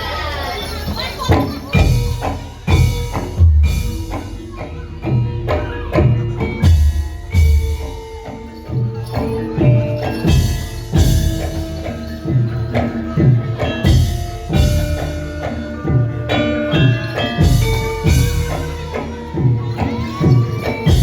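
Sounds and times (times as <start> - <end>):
metallophones and gongs ringing: 0.0 - 21.0
drum strokes: 1.2 - 21.0.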